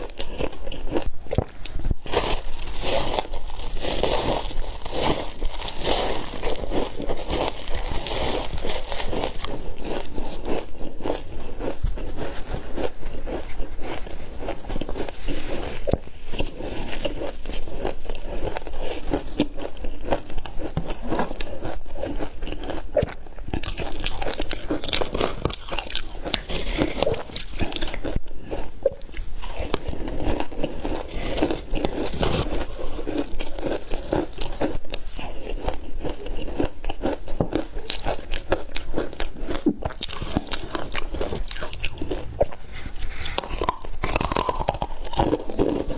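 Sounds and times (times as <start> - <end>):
ice being crunched and chewed: 0.0 - 45.9.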